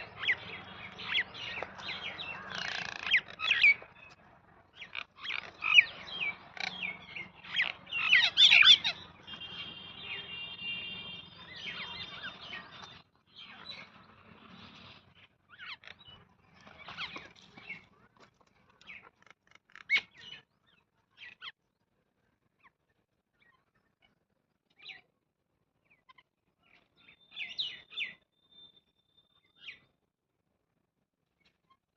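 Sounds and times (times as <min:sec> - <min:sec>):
small birds chirping: 0:00.0 - 0:21.9, 0:22.5 - 0:25.1, 0:25.8 - 0:29.9.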